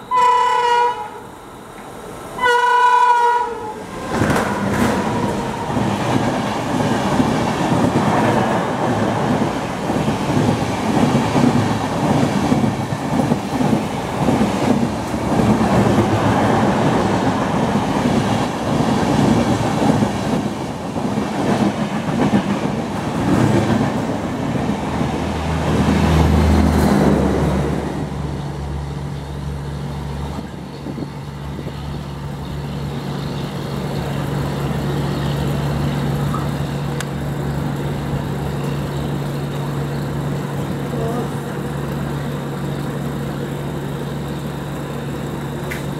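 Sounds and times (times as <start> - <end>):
low train hum: 0.0 - 45.9
train wheels rushing on rails: 3.4 - 45.9.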